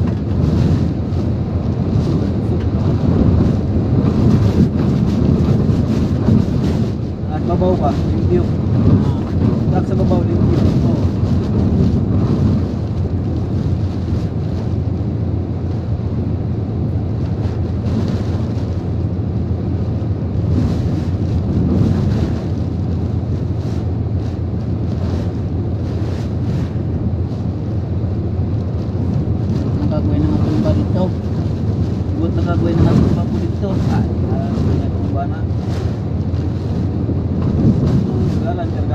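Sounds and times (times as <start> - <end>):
strong wind buffeting microphone: 0.0 - 38.9.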